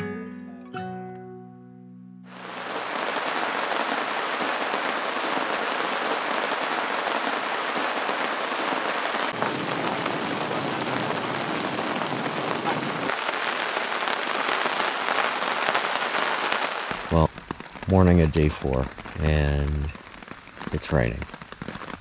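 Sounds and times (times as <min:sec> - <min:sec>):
rain falling on water: 0:02.3 - 0:22.0.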